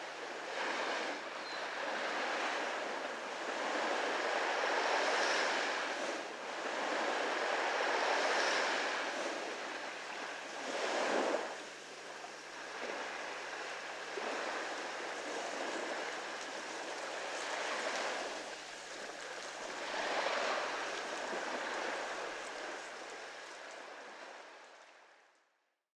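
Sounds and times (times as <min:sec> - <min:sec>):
small ocean waves lapping: 0:00.0 - 0:25.2.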